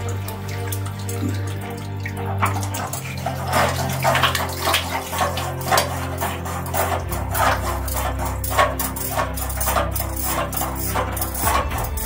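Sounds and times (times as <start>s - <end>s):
water gushing onto concrete: 0.0s - 12.0s.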